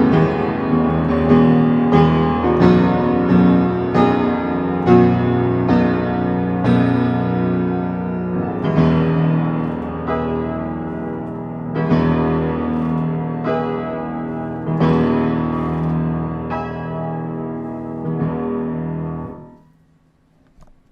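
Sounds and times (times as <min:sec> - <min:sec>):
piano playing slow chords: 0:00.0 - 0:20.9.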